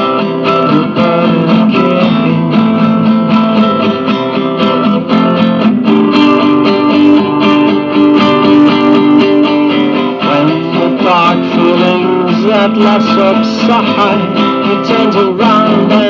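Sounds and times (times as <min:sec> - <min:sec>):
strummed acoustic guitar chords: 0:00.0 - 0:16.0.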